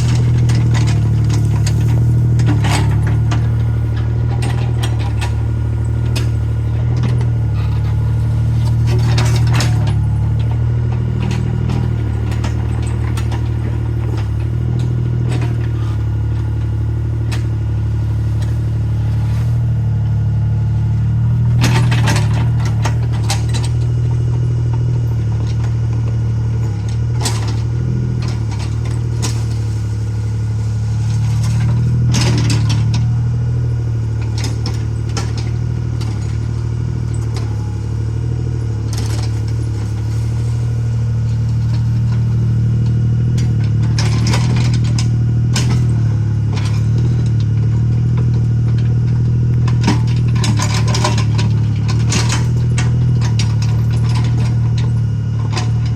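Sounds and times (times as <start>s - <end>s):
metal clanks and rattles: 0.0s - 19.4s, 20.0s - 55.9s
excavator engine running: 0.0s - 55.9s.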